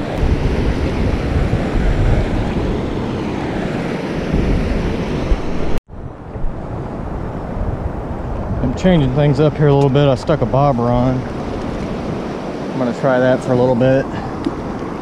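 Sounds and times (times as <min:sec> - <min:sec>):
river current rushing: 0:00.0 - 0:05.8, 0:06.5 - 0:15.0
wind buffeting microphone: 0:00.0 - 0:15.0.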